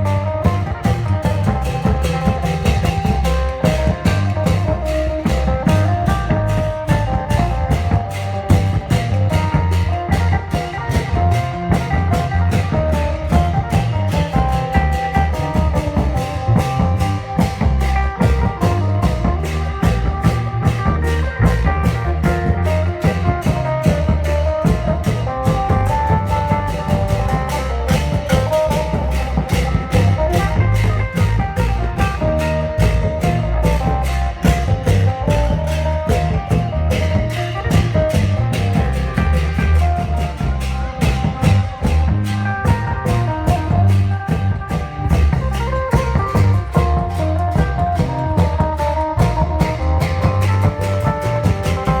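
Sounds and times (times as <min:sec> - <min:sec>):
continuous melody line: 0:00.0 - 0:52.0
fast drum beat: 0:00.0 - 0:52.0
sharp cymbal-like hits: 0:00.0 - 0:52.0.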